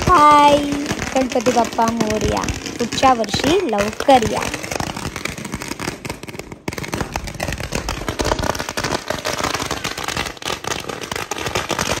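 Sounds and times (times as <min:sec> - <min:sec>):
firecrackers crackling: 0:00.0 - 0:12.0.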